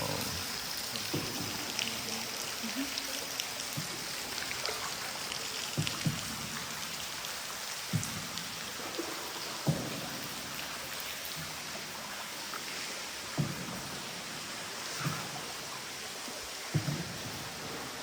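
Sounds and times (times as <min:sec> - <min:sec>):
water dripping and trickling: 0:00.0 - 0:18.0.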